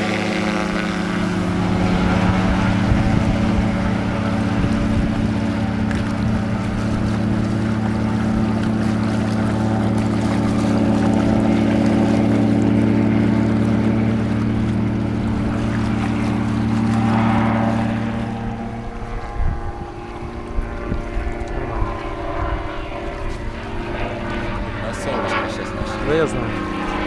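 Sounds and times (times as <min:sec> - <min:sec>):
aircraft engine and propeller droning: 0:00.0 - 0:27.0.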